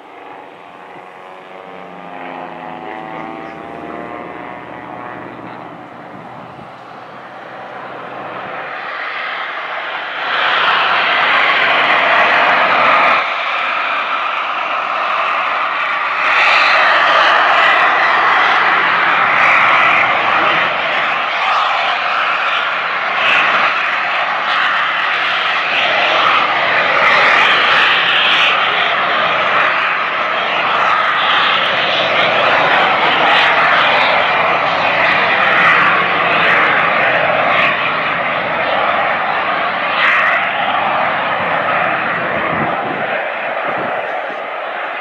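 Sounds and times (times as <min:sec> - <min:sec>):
jet engines roaring: 0:00.0 - 0:45.0.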